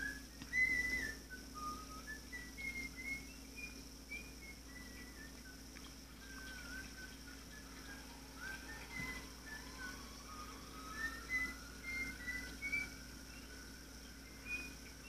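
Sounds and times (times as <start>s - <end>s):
whistle-like gliding melody: 0.0s - 15.0s.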